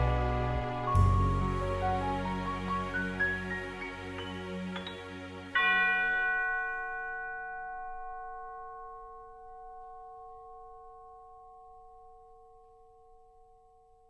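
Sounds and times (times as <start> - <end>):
soft instrumental music: 0.0 - 11.6
bright bell-like chord: 0.0 - 14.0.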